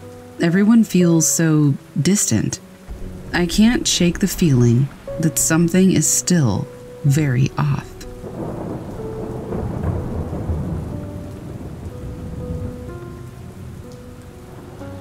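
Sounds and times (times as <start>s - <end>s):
steady rain: 0.0s - 15.0s
low roll of thunder: 2.9s - 15.0s.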